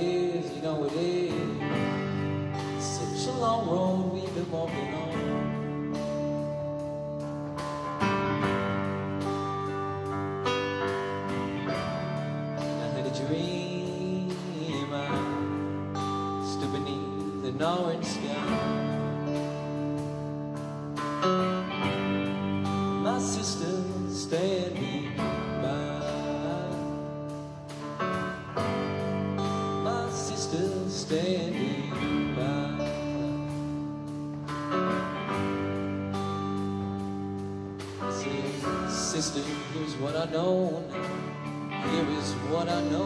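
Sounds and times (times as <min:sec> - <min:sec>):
country song with strummed guitar: 0:00.0 - 0:43.0.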